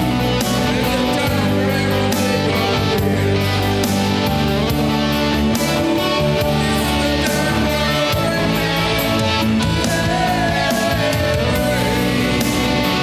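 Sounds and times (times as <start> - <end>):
band music with electric guitar: 0.0 - 13.0.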